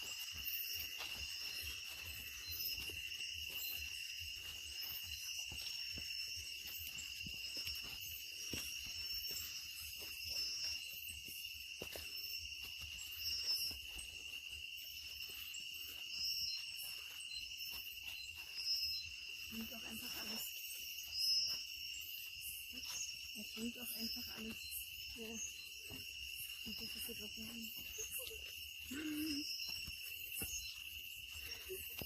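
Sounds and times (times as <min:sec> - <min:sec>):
high-pitched pulsing insect calls: 0:00.0 - 0:32.0
steady high insect trill: 0:00.0 - 0:32.0.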